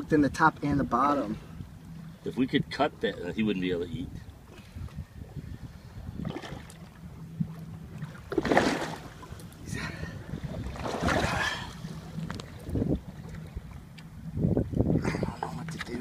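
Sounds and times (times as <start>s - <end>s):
waves around a boat: 0.0s - 16.0s
wind on microphone: 0.0s - 16.0s.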